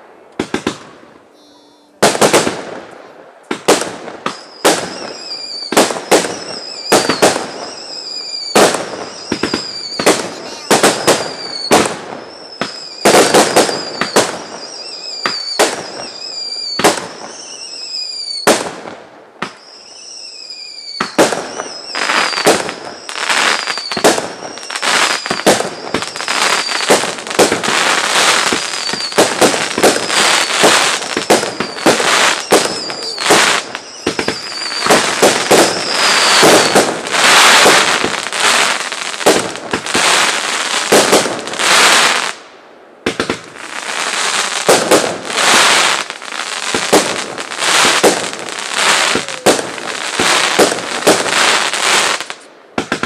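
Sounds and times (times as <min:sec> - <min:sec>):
fireworks whistling: 0:00.0 - 0:42.4, 0:43.1 - 0:53.0
fireworks bangs: 0:00.0 - 0:53.0
fireworks crackling: 0:00.0 - 0:53.0.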